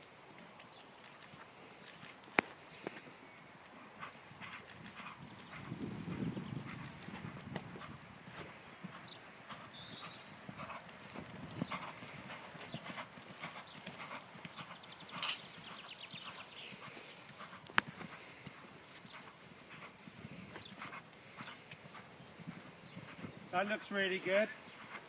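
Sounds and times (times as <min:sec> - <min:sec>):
hoofbeats on sand: 0:03.6 - 0:25.0.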